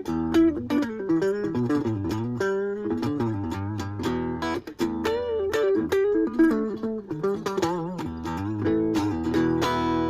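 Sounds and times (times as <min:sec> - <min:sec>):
electric guitar melodic run: 0:00.0 - 0:10.0.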